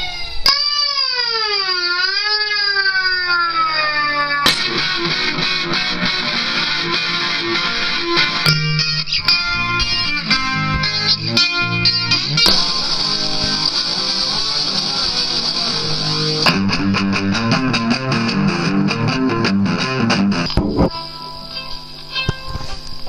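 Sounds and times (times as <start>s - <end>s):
picked guitar music: 0.0s - 23.0s.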